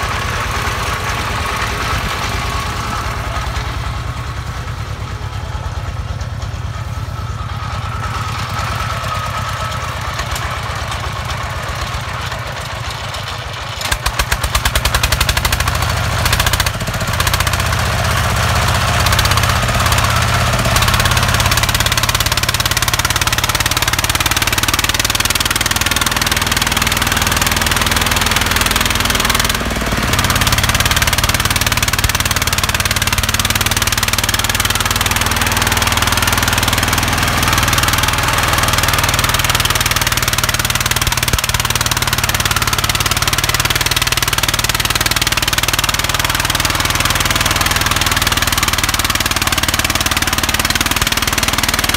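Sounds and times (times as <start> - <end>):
diesel engine chugging under load: 0.0 - 51.9.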